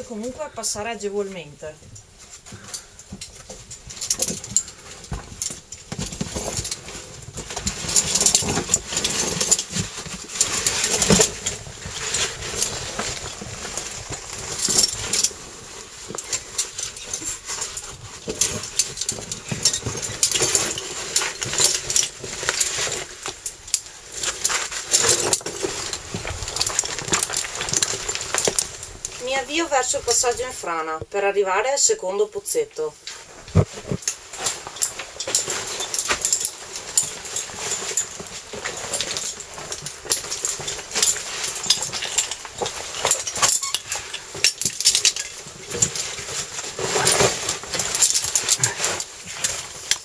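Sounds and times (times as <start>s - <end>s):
metal carabiners clinking: 1.8s - 30.5s, 33.0s - 50.0s
suit scraping against rock: 2.2s - 30.9s, 33.1s - 50.0s.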